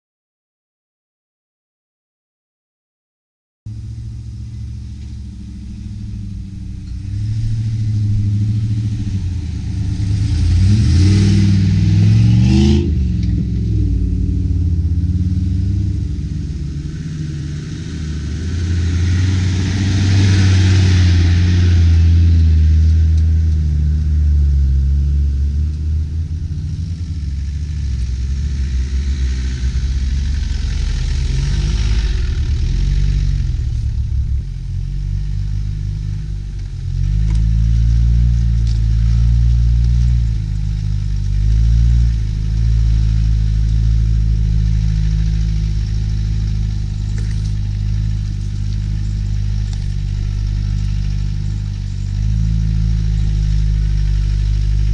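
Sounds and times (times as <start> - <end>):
vehicle engines at low revs: 3.7 - 54.9
engine revving up: 4.2 - 54.9.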